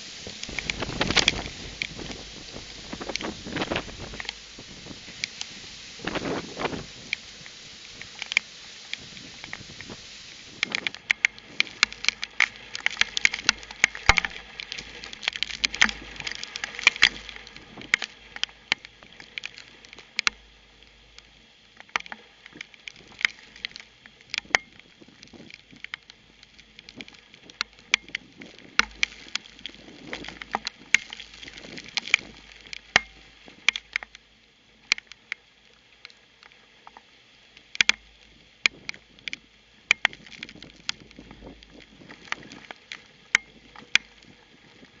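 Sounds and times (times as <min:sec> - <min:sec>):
rain pattering on camera housing: 0:00.0 - 0:45.0.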